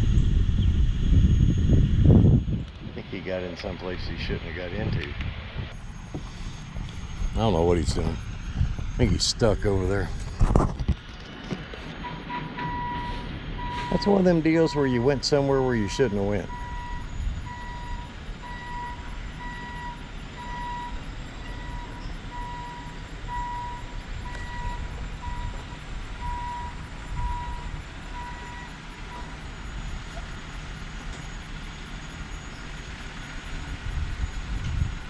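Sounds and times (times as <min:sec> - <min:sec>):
engine low rumble: 0:00.0 - 0:35.0
reversing alarm beeping: 0:05.7 - 0:10.5, 0:11.7 - 0:35.0.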